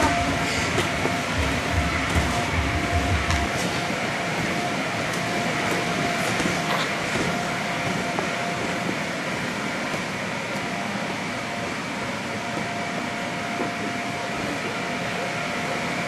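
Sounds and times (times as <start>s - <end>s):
inflation blower running: 0.0s - 16.0s.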